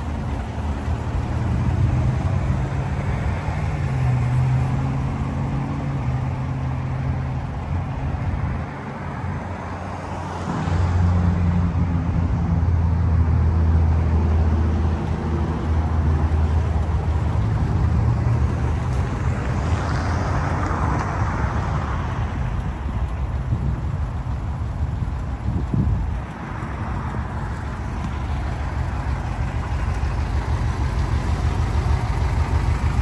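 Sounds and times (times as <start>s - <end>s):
van engine running: 0.0s - 10.1s, 11.2s - 33.0s.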